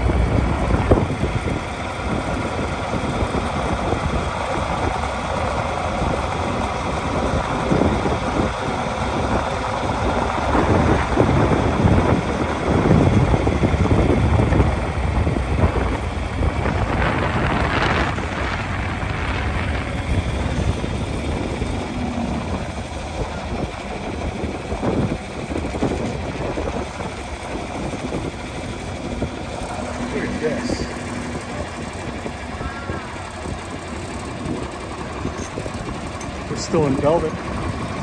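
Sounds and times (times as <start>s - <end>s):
tractor engine rumbling: 0.0s - 38.0s.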